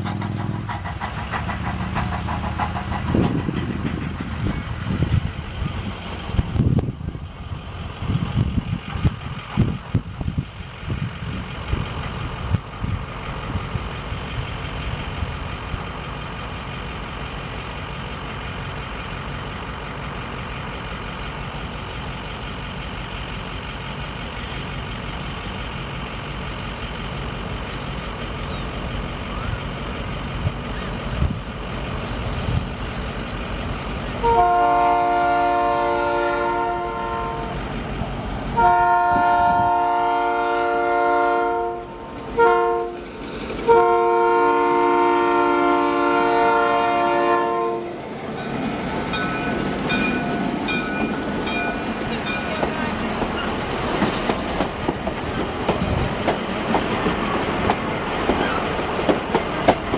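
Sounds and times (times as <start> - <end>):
train engine rumble: 0.0 - 59.9.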